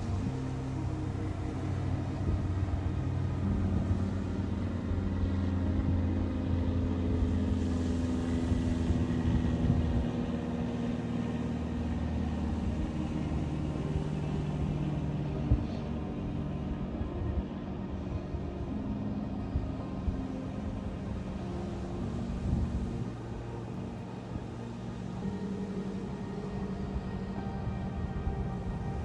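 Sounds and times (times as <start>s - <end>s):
engine running with low hum: 0.0s - 29.0s.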